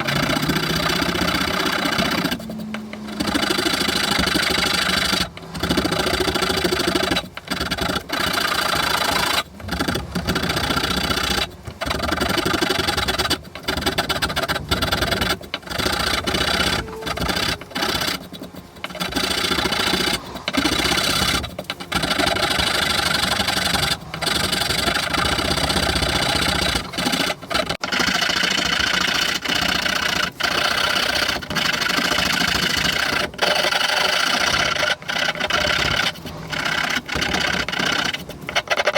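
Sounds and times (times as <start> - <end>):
rasp scraping wooden handle: 0.0 - 38.9.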